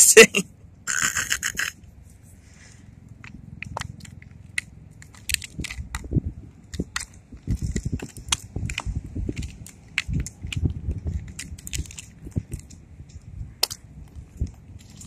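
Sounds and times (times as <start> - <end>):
low rumble: 0.4 - 15.0.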